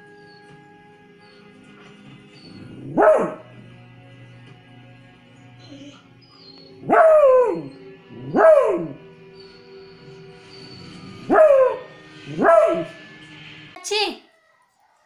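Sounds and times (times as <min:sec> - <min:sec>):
faint television music: 0:00.0 - 0:15.0.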